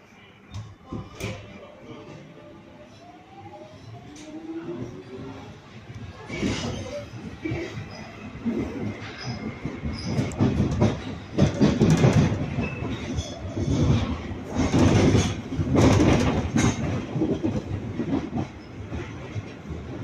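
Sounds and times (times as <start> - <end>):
train wheels rumbling on rail: 2.8 - 20.0.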